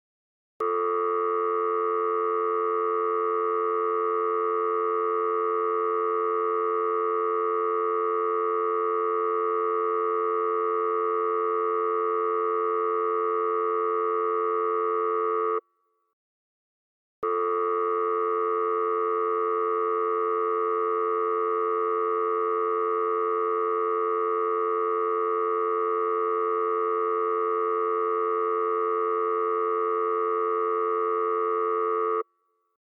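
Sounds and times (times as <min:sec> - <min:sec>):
telephone dial tone: 0:00.6 - 0:15.6, 0:17.2 - 0:32.3.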